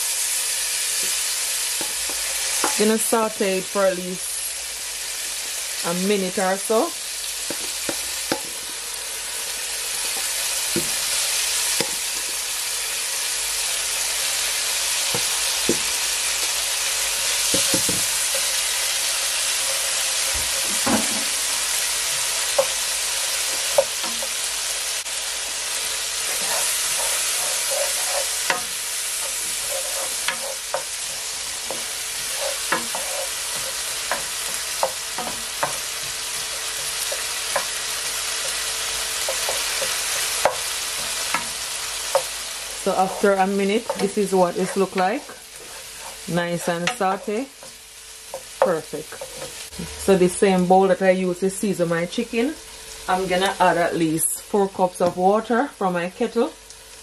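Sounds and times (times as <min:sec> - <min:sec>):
vegetables sizzling in oil: 0:00.0 - 0:57.0
spoon stirring and scraping pan: 0:00.2 - 0:03.9, 0:04.9 - 0:13.0, 0:14.8 - 0:49.7.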